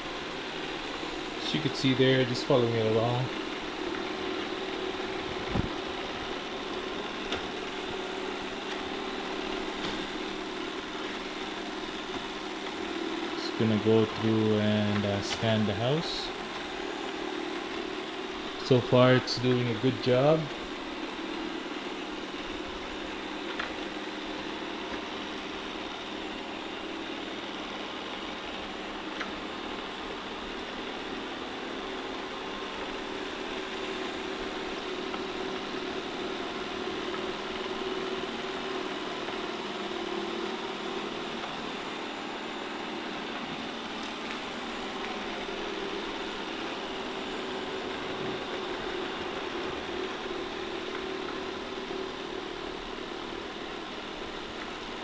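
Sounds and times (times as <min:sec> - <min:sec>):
robot vacuum motor and brush hum: 0:00.0 - 0:55.0.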